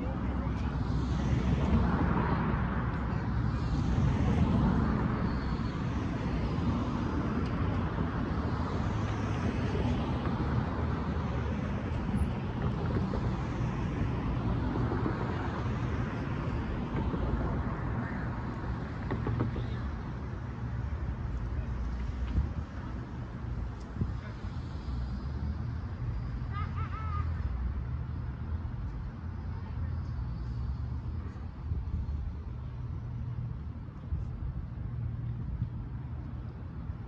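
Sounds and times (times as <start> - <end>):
cars driving past: 0.0 - 37.0.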